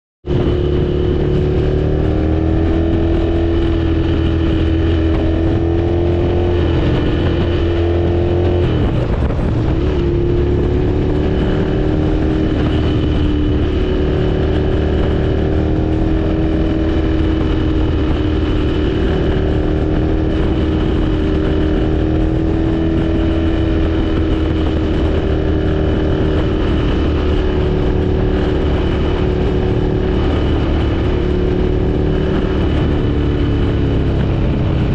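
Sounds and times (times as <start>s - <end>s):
motorcycle engine cruising: 0.2s - 34.9s
road noise: 0.2s - 34.9s
wind rush: 0.2s - 34.9s.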